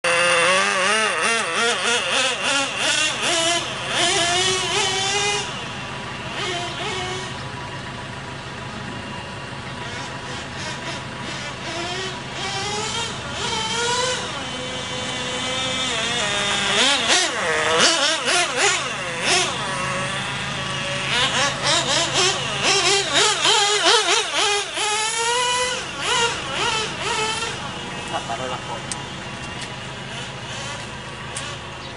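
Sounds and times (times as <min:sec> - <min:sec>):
model car engine revving: 0:00.0 - 0:31.9.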